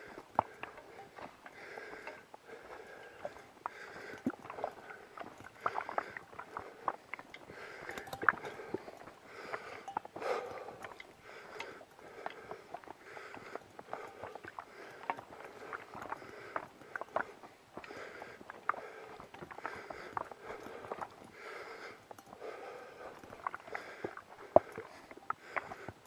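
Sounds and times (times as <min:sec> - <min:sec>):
footsteps on forest trail: 0:00.0 - 0:26.0
person breathing: 0:00.0 - 0:26.0.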